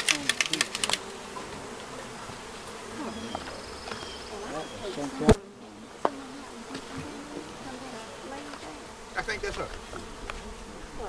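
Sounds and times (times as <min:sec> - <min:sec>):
single bees flying past: 0:00.0 - 0:11.0
swarm of bees buzzing: 0:00.0 - 0:11.0.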